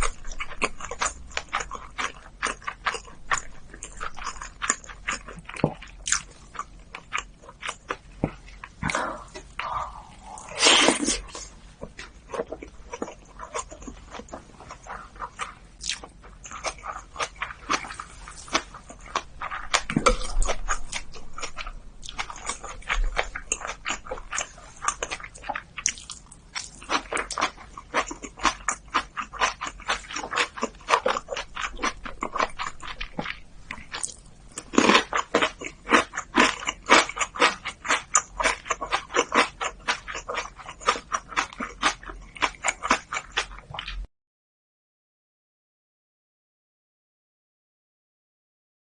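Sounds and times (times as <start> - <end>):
person chewing: 0.0 - 44.1.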